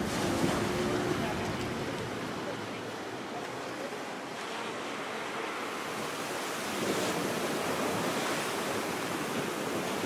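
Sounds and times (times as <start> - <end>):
waves breaking: 0.0 - 10.0.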